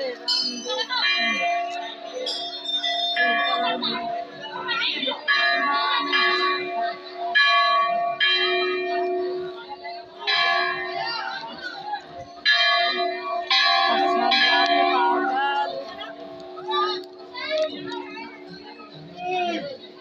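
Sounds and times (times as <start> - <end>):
temple bells ringing: 0.0 - 20.0.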